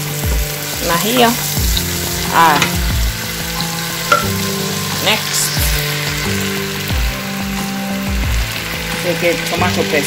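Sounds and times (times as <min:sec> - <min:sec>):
meat and potatoes sizzling: 0:00.0 - 0:10.0
music with sustained chords: 0:00.0 - 0:10.0.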